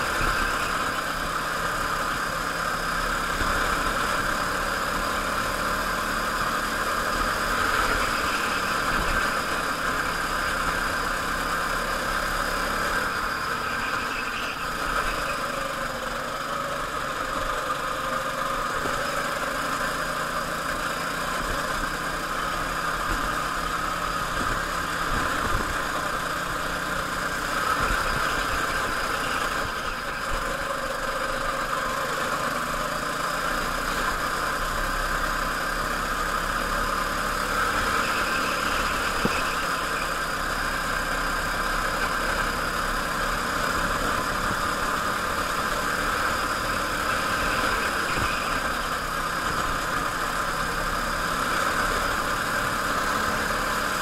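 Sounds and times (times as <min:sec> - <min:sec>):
go-kart engine droning: 0:00.0 - 0:54.0.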